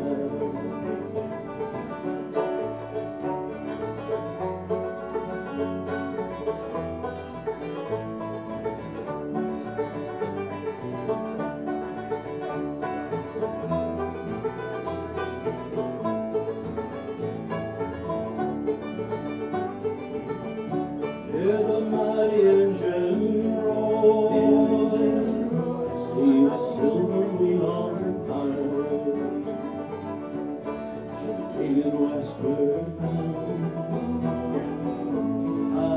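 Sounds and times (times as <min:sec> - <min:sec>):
banjo picking: 0:00.0 - 0:35.9
strummed acoustic guitars: 0:00.0 - 0:35.9.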